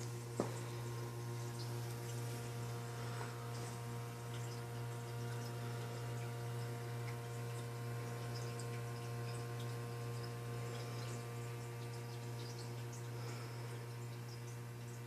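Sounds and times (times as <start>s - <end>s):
water drips and ticks: 0.0s - 15.0s
water pump humming: 0.0s - 15.0s.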